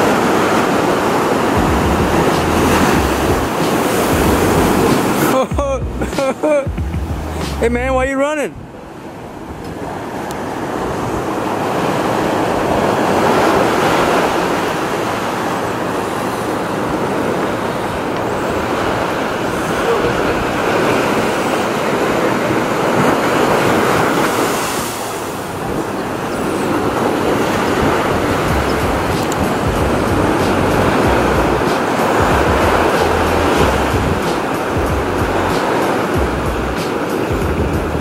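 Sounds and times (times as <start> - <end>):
ocean surf on a beach: 0.0 - 38.0.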